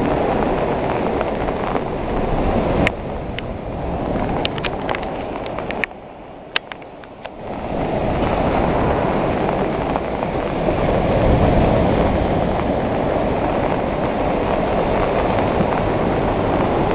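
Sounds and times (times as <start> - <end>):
sea waves breaking on beach: 0.0 - 16.9.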